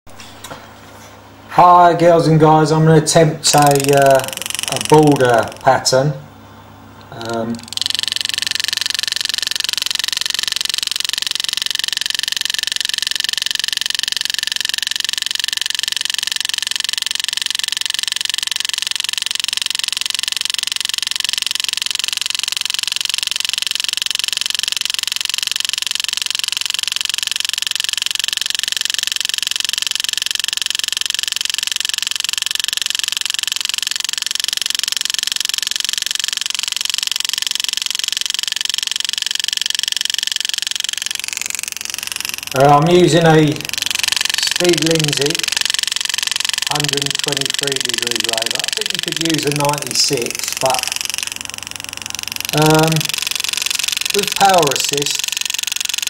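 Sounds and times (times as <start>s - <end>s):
pneumatic engraving tool buzzing: 2.8s - 56.0s.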